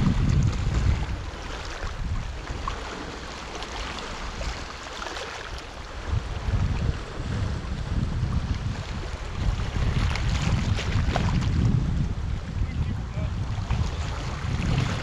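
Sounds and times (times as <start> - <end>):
surf washing and hissing: 0.0 - 15.0
wind buffeting microphone: 0.0 - 15.0.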